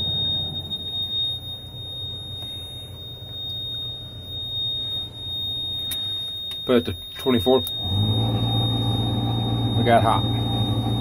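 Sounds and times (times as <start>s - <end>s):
blower motor hum: 0.0s - 11.0s
high-pitched tone: 0.0s - 11.0s.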